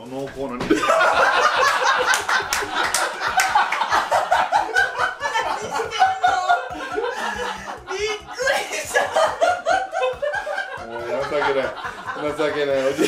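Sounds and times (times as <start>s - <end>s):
men laughing: 0.6s - 13.0s.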